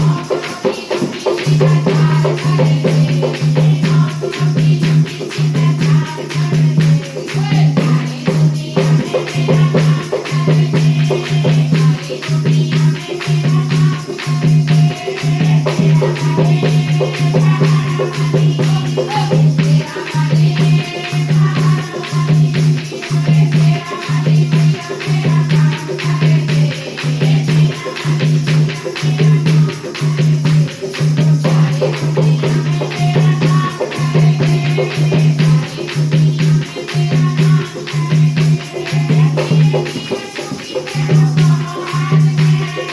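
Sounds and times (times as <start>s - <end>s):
fast rattling percussion: 0.0s - 42.9s.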